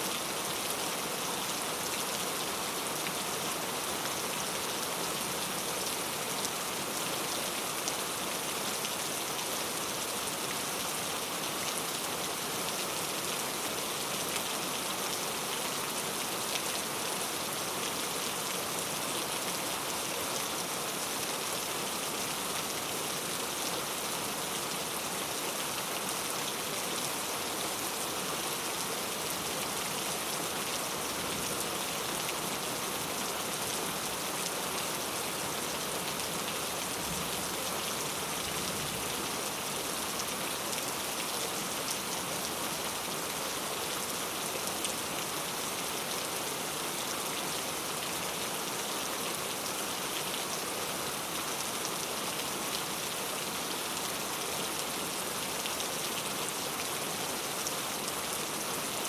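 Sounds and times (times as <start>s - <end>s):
heavy rain falling: 0.1s - 59.0s.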